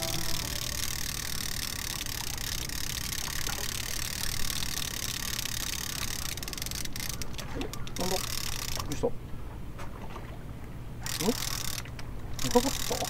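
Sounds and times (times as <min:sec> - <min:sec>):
fishing reel cranked ticking: 0:00.0 - 0:09.0, 0:11.0 - 0:13.0.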